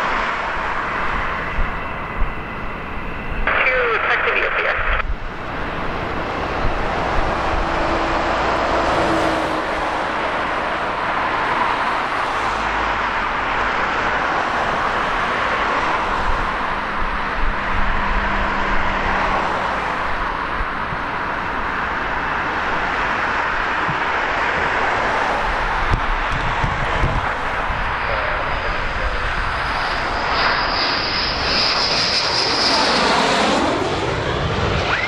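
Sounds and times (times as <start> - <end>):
jet engine rush: 0.0 - 35.0.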